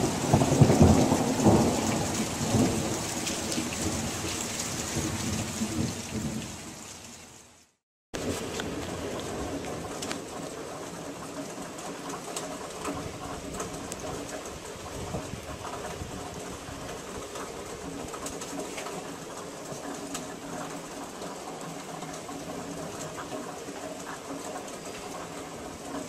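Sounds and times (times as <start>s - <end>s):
rain falling and dripping: 0.0s - 26.0s.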